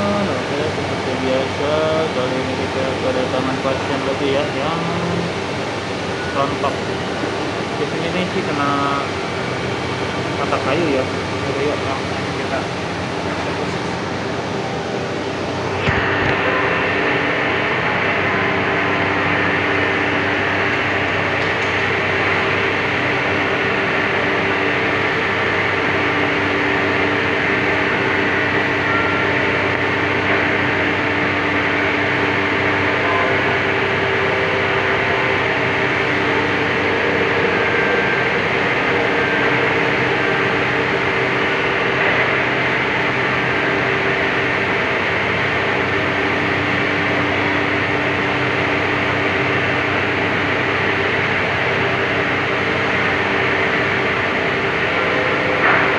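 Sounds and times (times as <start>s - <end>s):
workshop machine humming: 0.0s - 55.9s.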